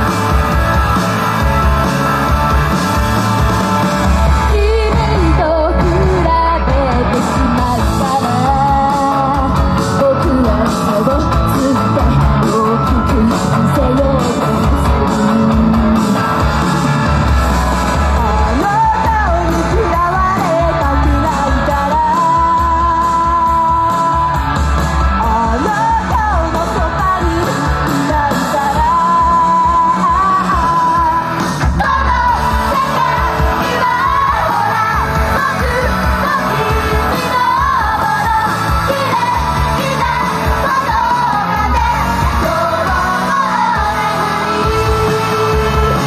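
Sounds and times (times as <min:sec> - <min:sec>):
women singing pop-rock song: 0:00.0 - 0:17.1, 0:17.8 - 0:46.0
amplified band music: 0:00.0 - 0:46.0.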